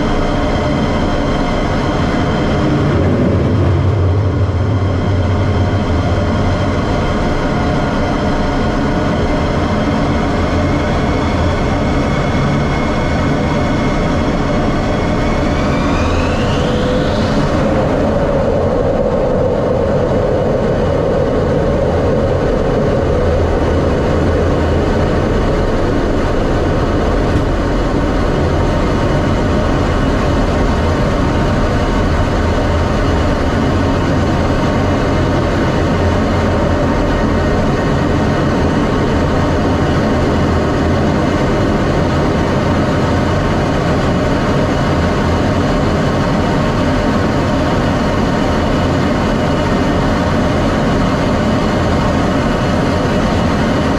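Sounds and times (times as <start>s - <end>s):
jet engine rumbling: 0.0s - 53.9s.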